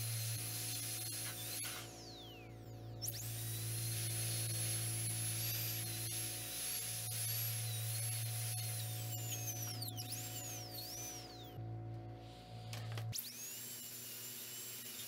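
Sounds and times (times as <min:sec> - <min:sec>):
dental drill whining: 0:00.0 - 0:11.6, 0:13.2 - 0:15.0
steady low hum: 0:00.0 - 0:13.2.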